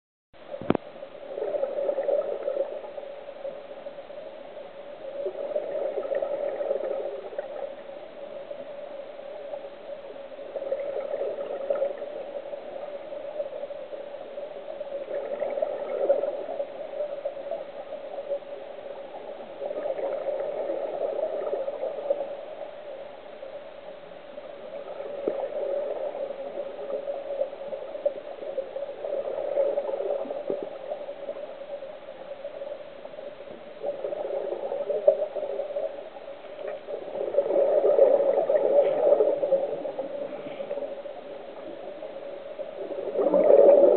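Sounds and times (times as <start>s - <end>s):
faint steady hum: 0.4s - 43.9s
regulator bubbles gurgling underwater: 0.4s - 43.9s.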